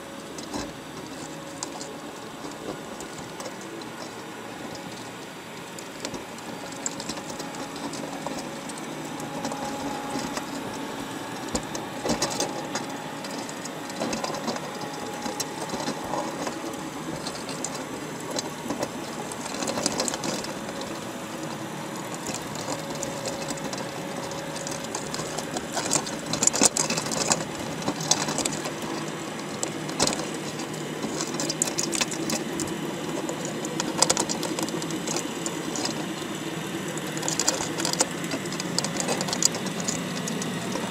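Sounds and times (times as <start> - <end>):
crab shells clicking and scratching: 0.0 - 40.9
faint steady hum: 0.0 - 40.9.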